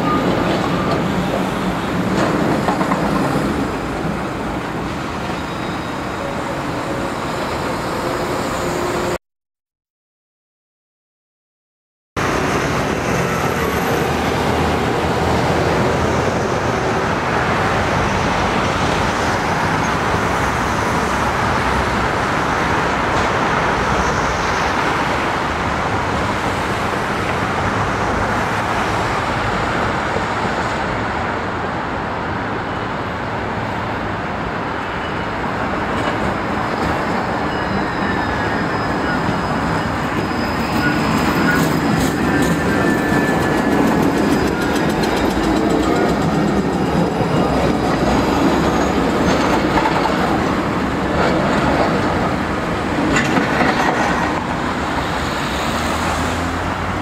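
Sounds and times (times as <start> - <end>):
electric tram on tracks: 0.0 - 9.2, 12.2 - 57.0
road traffic passing: 0.0 - 9.2, 12.2 - 57.0.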